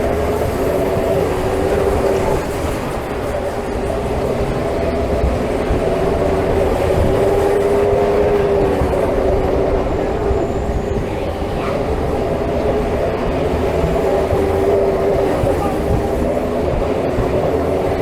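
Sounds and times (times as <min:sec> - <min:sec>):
ride cars rumbling on track: 0:00.0 - 0:18.0.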